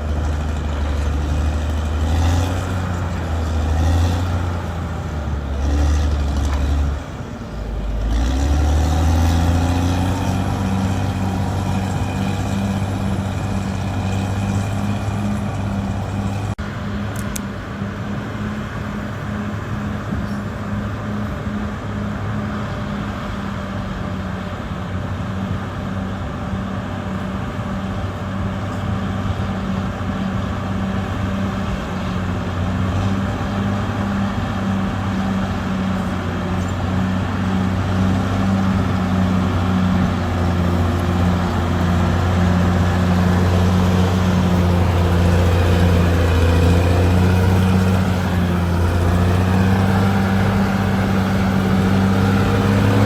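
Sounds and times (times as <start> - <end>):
heavy machine diesel engine running: 0.0 - 53.0.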